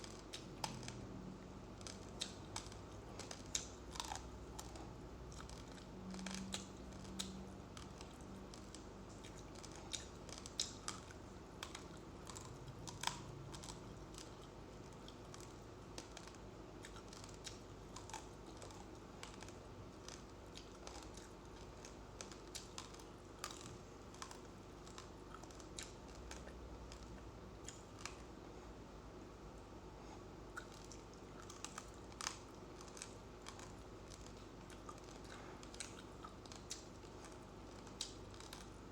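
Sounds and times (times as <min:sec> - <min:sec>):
person chewing uncooked rice: 0:00.0 - 0:28.9, 0:29.6 - 0:38.9.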